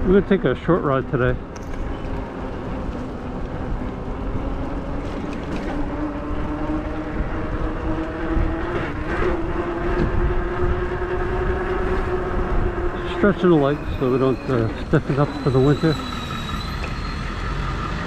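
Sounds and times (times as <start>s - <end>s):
electric bike motor whining: 1.8s - 17.7s.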